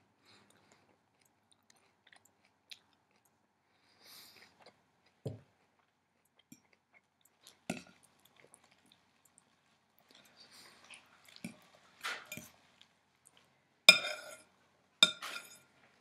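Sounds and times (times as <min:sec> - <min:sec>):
faint crunchy chewing: 0:00.2 - 0:14.5.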